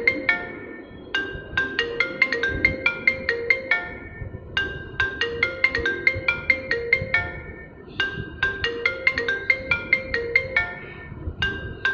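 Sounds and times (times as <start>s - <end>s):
marimba-like phone ringtone: 0.0s - 11.9s.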